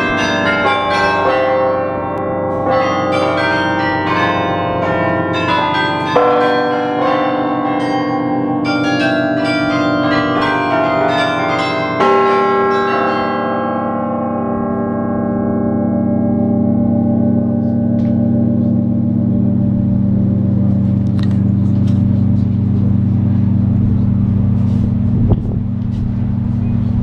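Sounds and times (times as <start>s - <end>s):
carillon bells ringing: 0.0s - 25.1s
deep bell hum: 0.0s - 27.0s.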